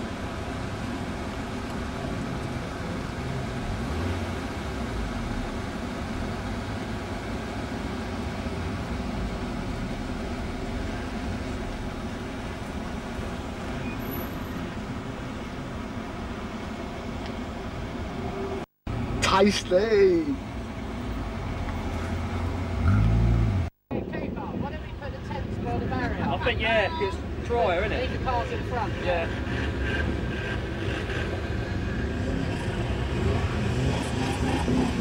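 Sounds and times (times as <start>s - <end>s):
car engines rolling past slowly: 0.0s - 35.0s.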